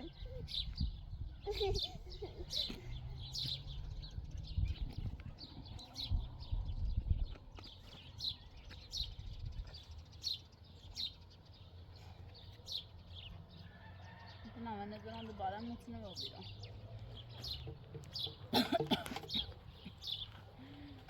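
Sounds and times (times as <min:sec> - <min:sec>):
bird chirping: 0:00.0 - 0:14.4, 0:15.0 - 0:21.0.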